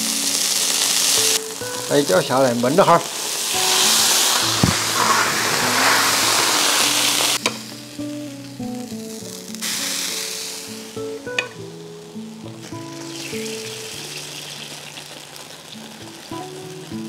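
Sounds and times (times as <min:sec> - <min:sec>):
peppers sizzling in hot oil: 0:00.0 - 0:17.0.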